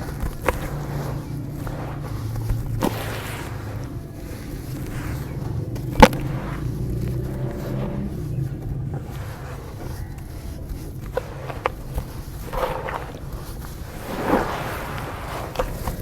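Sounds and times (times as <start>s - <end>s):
dirt chunks crumbling: 0.0s - 16.0s
low steady rumble: 0.0s - 16.0s.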